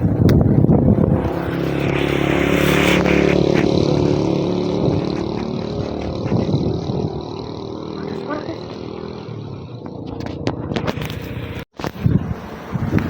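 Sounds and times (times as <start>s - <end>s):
engine humming: 0.0s - 13.0s
wind buffeting microphone: 0.0s - 13.0s.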